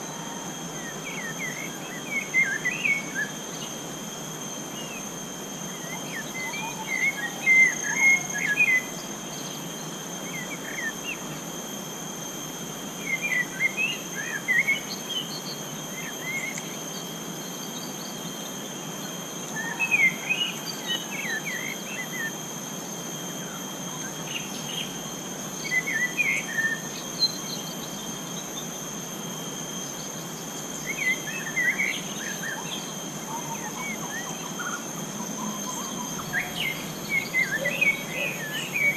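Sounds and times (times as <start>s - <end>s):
high-pitched insect drone: 0.0s - 38.9s.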